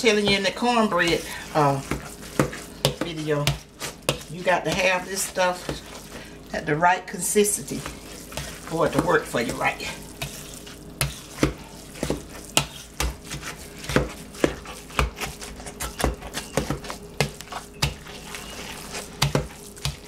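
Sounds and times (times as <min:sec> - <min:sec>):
soft squishing scrape: 0:00.0 - 0:06.6, 0:07.4 - 0:20.0.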